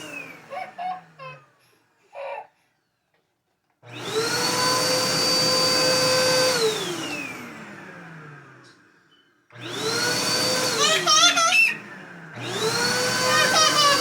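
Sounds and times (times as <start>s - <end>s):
vacuum cleaner motor whine: 0.0s - 1.5s, 3.8s - 14.0s.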